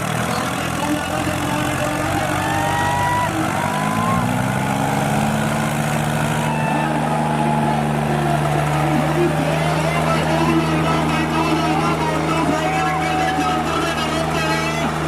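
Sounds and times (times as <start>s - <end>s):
tractor diesel engines under load: 0.0s - 15.0s.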